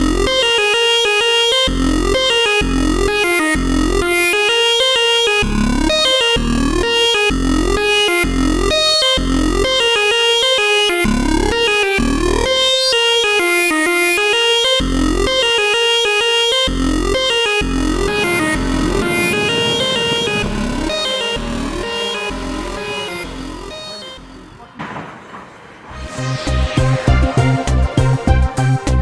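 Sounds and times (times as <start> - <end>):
electronic music with synthesizer: 0.0 - 24.8.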